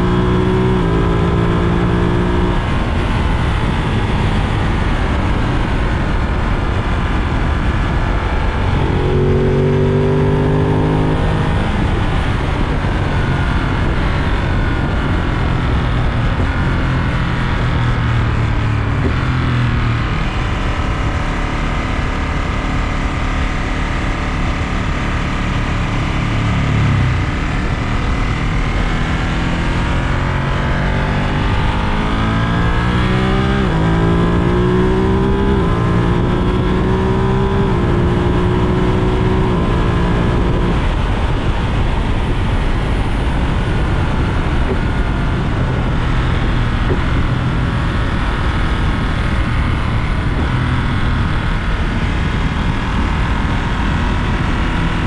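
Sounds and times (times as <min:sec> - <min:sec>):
motorcycle engine accelerating hard: 0:00.0 - 0:55.0.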